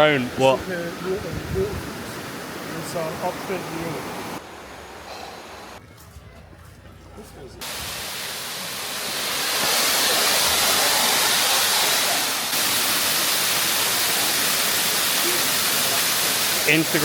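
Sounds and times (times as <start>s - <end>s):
waterfall rushing: 0.0s - 5.8s, 7.6s - 17.0s.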